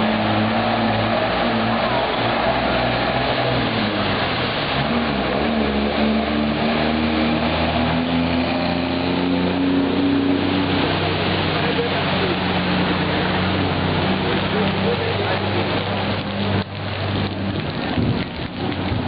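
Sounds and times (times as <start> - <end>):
truck diesel engine running: 0.0 - 19.0
water splashing from wheels: 0.0 - 19.0.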